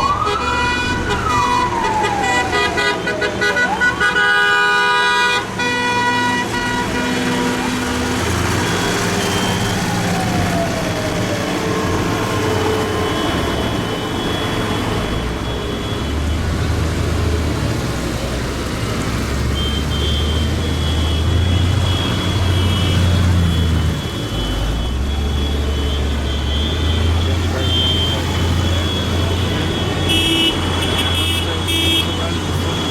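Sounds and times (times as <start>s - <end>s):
tractors driving past: 5.5s - 32.9s.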